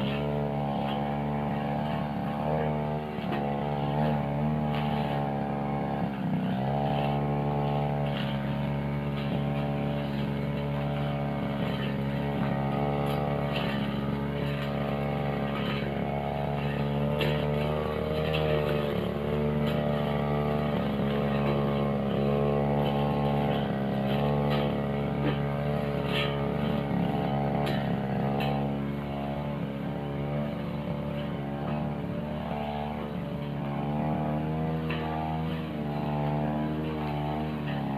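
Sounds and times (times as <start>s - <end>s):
blade ticking on stems: 0.0s - 37.9s
brush cutter engine running: 0.0s - 37.9s.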